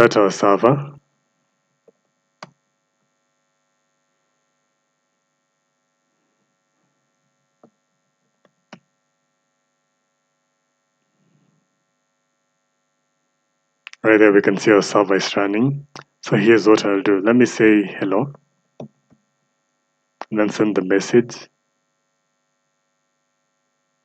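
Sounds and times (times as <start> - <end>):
faint electrical hum: 0.0 - 4.7, 5.4 - 21.7.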